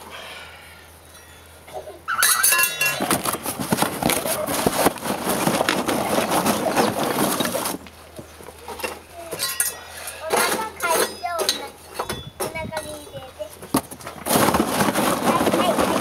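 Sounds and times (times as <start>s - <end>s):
charcoal lumps clattering: 1.2s - 16.0s.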